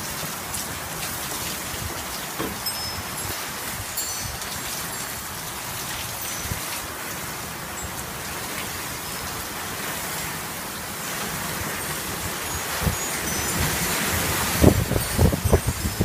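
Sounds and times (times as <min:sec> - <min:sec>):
heavy rain and hail falling: 0:00.0 - 0:16.0.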